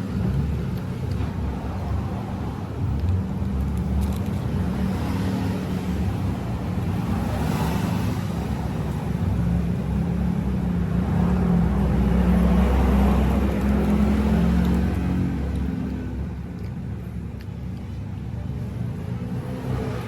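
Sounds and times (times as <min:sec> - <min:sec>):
road traffic engine rumble: 0:00.0 - 0:20.0.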